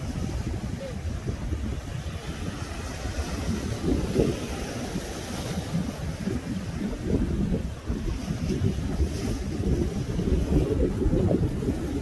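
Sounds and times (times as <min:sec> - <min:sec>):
sea surf on rocky shore: 0:00.0 - 0:12.0
wind buffeting microphone: 0:00.0 - 0:12.0.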